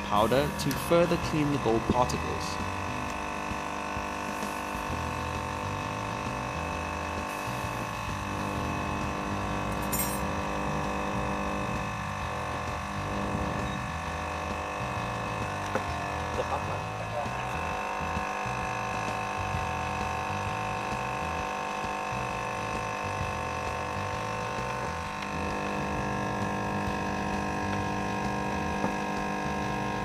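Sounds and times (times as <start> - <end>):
induction heater humming: 0.0 - 30.0.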